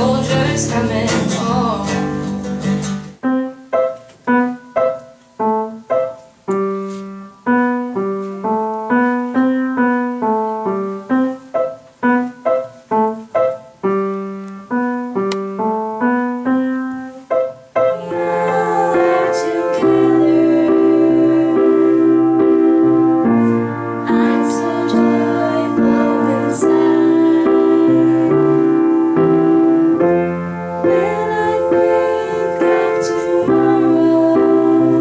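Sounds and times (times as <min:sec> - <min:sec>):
piano playing a melody: 0:00.0 - 0:35.0.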